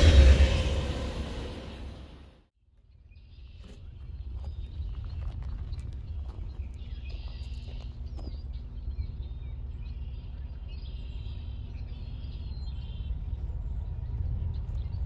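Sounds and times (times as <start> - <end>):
steady low rumble: 0.0 - 15.0
songbirds chirping and singing: 2.8 - 15.0.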